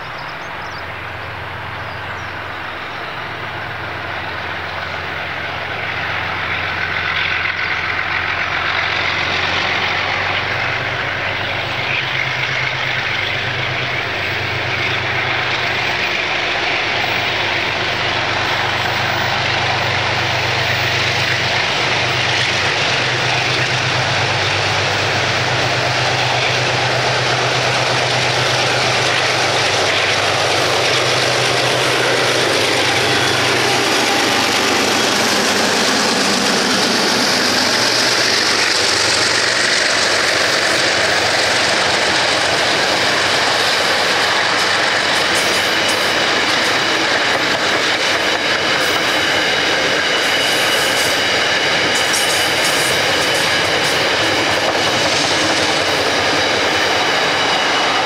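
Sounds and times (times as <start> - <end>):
diesel locomotive engines droning: 0.0 - 58.0.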